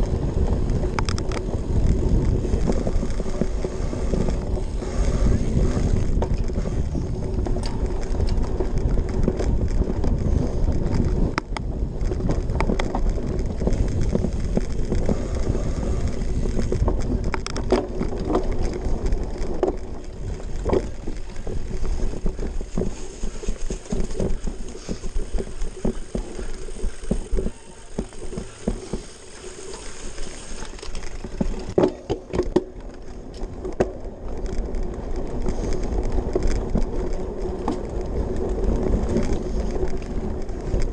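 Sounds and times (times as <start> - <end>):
bike frame rattling: 0.0 - 40.9
tyres rumbling on rough ground: 0.0 - 40.9.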